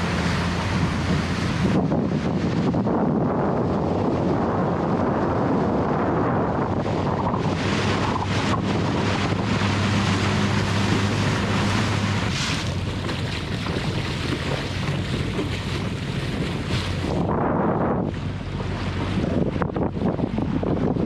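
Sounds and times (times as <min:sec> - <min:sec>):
motor hum: 0:00.0 - 0:21.0
water rushing past boat: 0:00.0 - 0:21.0
wind buffeting microphone: 0:00.0 - 0:21.0.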